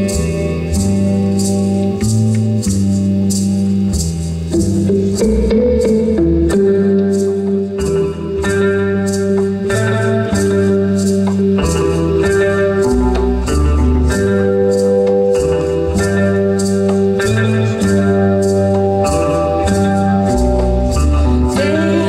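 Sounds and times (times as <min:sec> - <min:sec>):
bass line: 0:00.0 - 0:22.0
electric guitar: 0:00.0 - 0:22.0.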